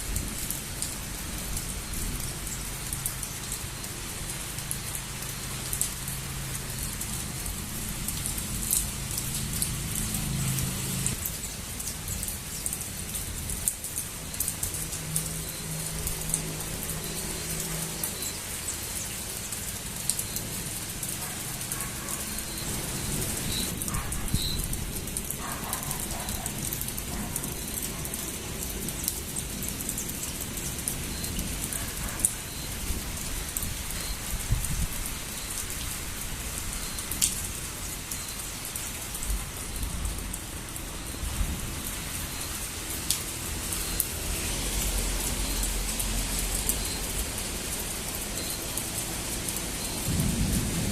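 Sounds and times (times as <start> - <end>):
gentle rain falling: 0.0 - 50.9.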